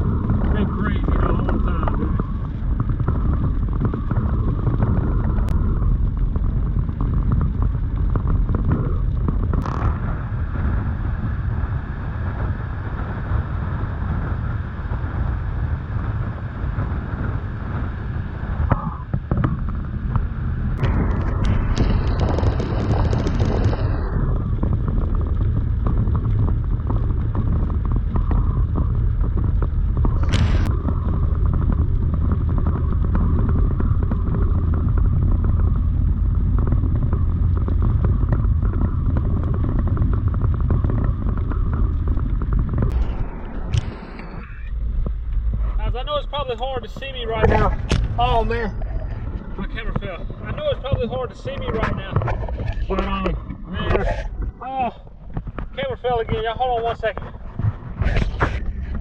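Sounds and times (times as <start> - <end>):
wind buffeting: 0.0 - 59.0.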